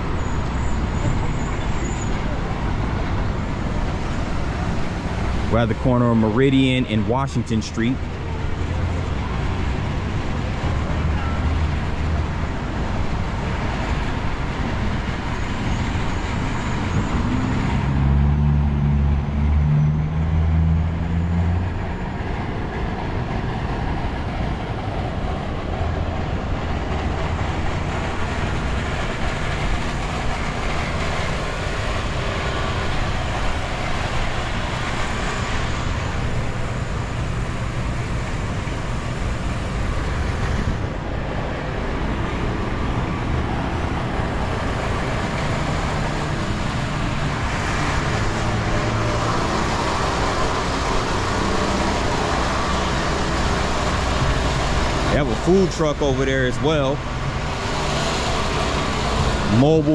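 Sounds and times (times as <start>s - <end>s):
deep engine drone: 0.0s - 59.9s
passing vehicles: 0.0s - 59.9s.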